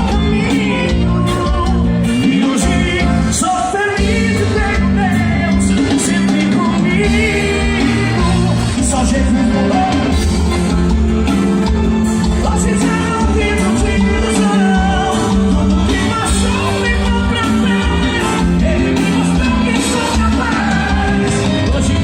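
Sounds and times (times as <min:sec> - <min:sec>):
live band playing: 0:00.0 - 0:22.0
person singing: 0:00.0 - 0:22.0.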